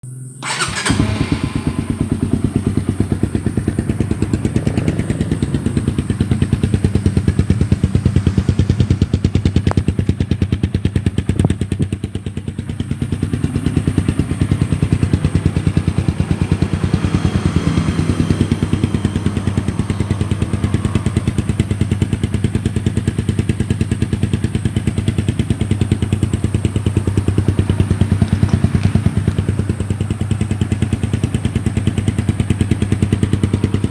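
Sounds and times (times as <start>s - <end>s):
motorcycle engine idling: 0.3s - 33.9s.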